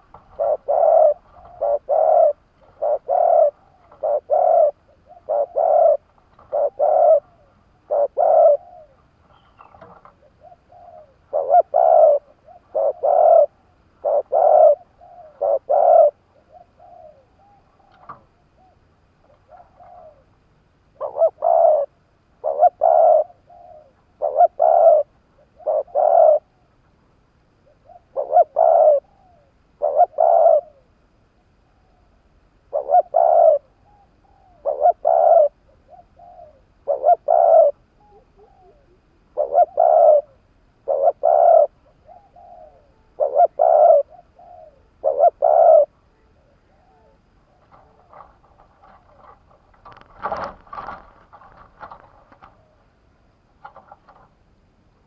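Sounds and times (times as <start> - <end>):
dove cooing: 0.0 - 26.7, 27.6 - 31.0, 31.6 - 54.3.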